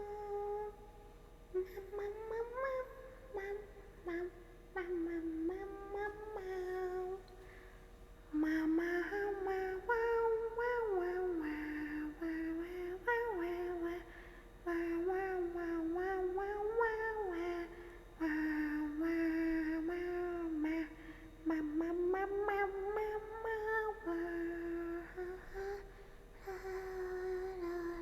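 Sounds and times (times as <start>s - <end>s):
woman humming and singing: 0.0s - 28.0s.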